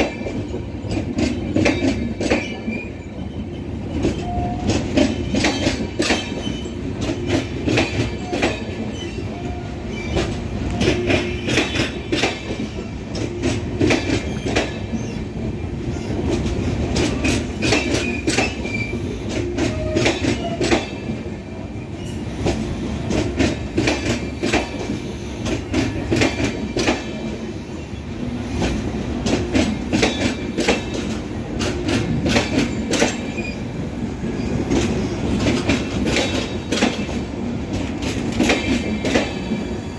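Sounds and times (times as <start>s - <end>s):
train wheels clattering over rail joints: 0.0s - 27.5s, 28.2s - 39.9s.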